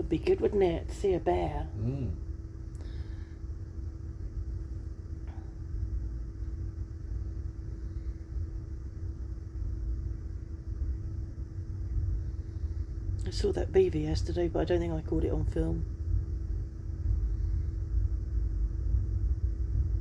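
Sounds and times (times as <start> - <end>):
constant hum: 0.0 - 20.0.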